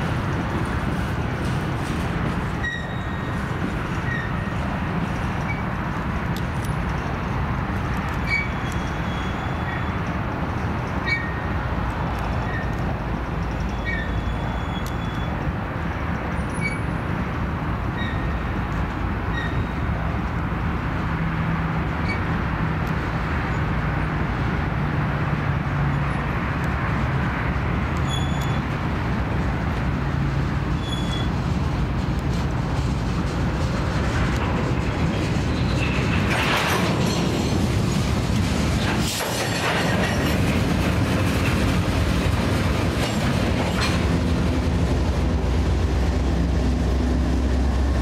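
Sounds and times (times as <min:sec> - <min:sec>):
freight train wheels rumbling on rails: 0:00.0 - 0:48.0.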